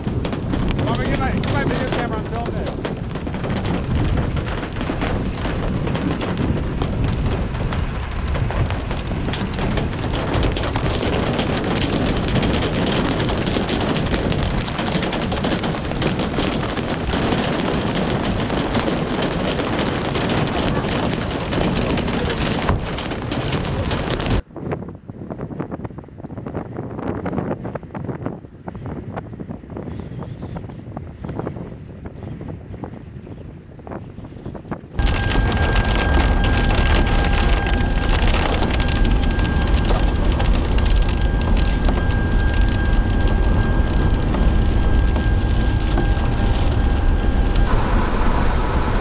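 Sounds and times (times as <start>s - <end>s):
strong wind buffeting microphone: 0.0s - 49.0s.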